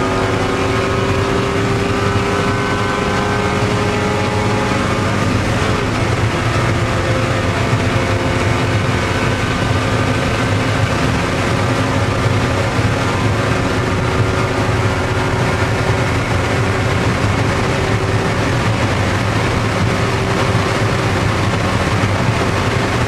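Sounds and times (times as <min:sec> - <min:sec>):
loud wind and road noise: 0:00.0 - 0:23.0
race car engine running: 0:00.0 - 0:23.0.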